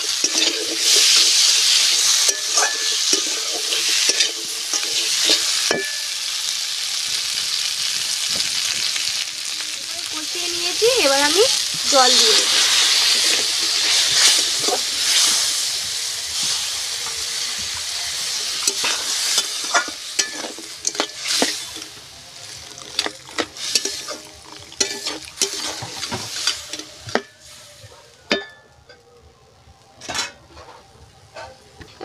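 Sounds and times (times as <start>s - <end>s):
curry sizzling in a pan: 0.0s - 29.1s.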